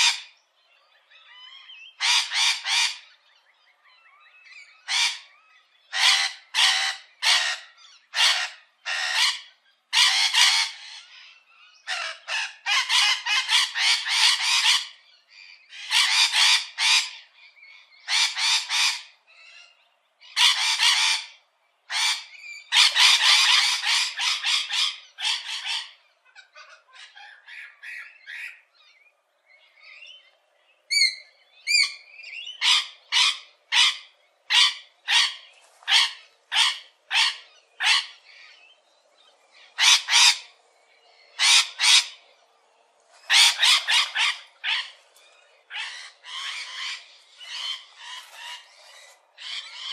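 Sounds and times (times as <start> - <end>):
parakeets screeching: 1.2 - 3.1, 4.6 - 15.0, 15.6 - 17.2, 18.0 - 28.6, 30.9 - 38.6, 39.6 - 40.6, 41.3 - 42.2, 43.2 - 45.0, 45.6 - 49.9.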